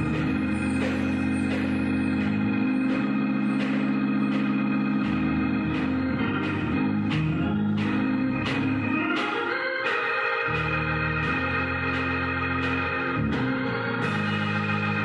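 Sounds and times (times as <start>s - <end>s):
church organ music: 0.0s - 15.0s.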